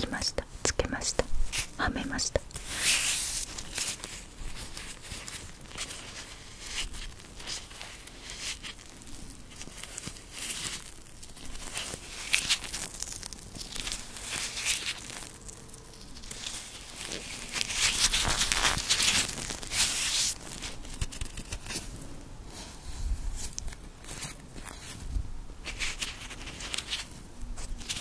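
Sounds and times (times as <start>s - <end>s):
rubber gloves rustling: 2.5s - 28.0s.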